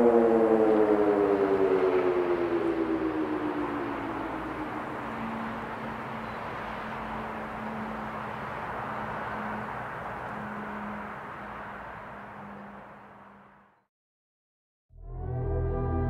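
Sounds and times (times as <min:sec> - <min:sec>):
warning siren low hum: 0:00.0 - 0:13.8, 0:15.0 - 0:16.0
outdoor noise: 0:00.0 - 0:13.9.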